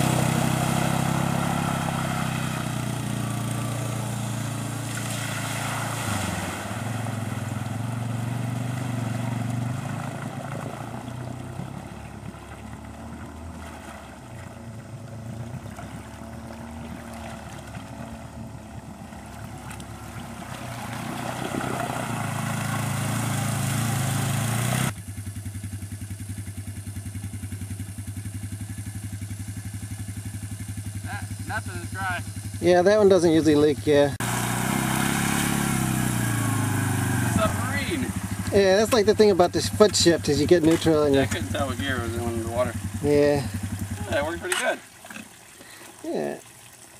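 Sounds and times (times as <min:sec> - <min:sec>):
engine idling close by: 0:00.0 - 0:05.2, 0:06.6 - 0:34.8, 0:35.8 - 0:46.9
quad bike engine running: 0:00.0 - 0:46.4.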